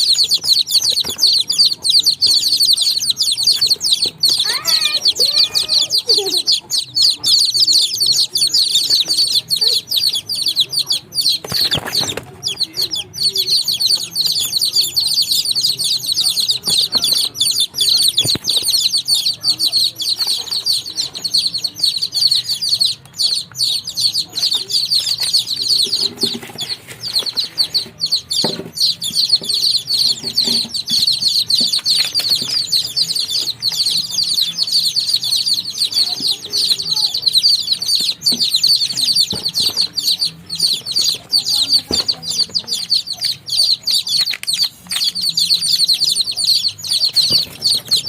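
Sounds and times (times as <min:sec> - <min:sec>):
baby chicks peeping: 0:00.0 - 0:48.0.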